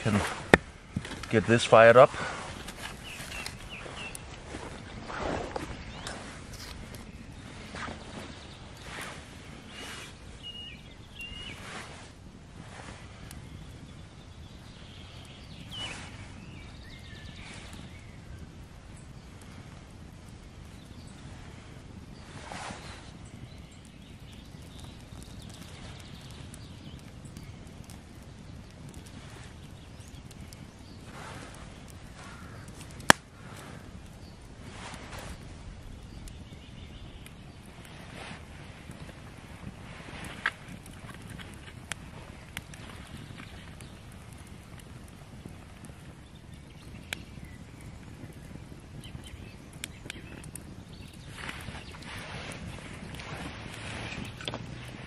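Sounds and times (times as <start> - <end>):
fire popping: 0.0 - 55.0
wood fire crackling: 0.0 - 55.0.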